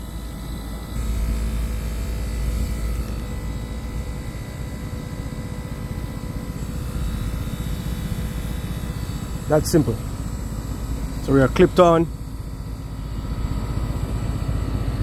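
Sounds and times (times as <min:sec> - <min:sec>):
machinery drone: 0:00.0 - 0:15.0
thin steady hum: 0:00.0 - 0:15.0.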